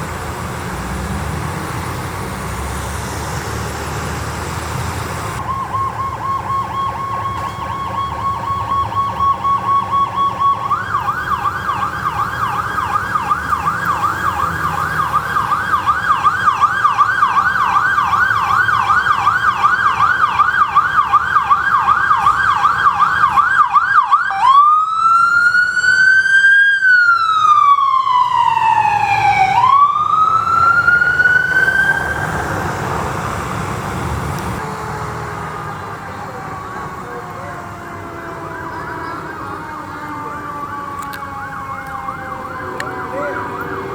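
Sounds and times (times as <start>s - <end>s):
engine and road noise: 0.0s - 43.9s
electronic siren: 5.3s - 43.9s.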